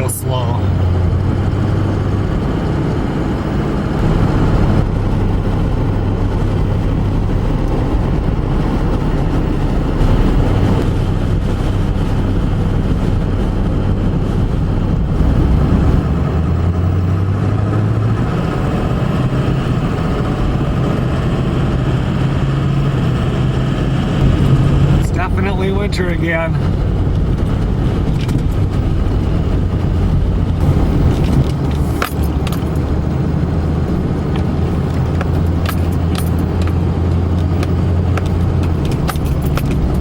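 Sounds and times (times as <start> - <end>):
car engine hum: 0.0 - 40.0
road and tyre noise: 0.0 - 40.0.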